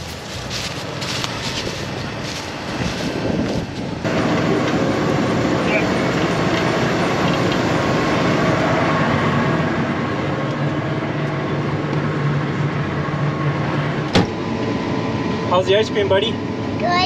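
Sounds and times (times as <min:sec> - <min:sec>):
low hum: 0:00.0 - 0:16.8
combine harvester running: 0:00.0 - 0:17.0.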